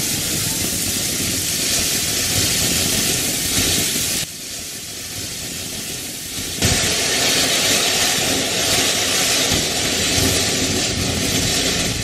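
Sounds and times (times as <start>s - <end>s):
fountain firework hissing: 0.0s - 12.0s.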